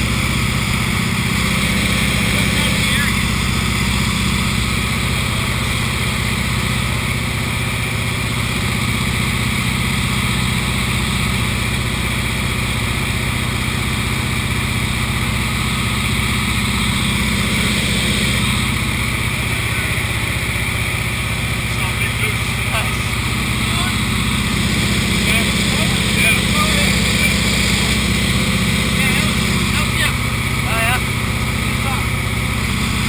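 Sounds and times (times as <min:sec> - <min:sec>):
plane engine droning: 0:00.0 - 0:33.0.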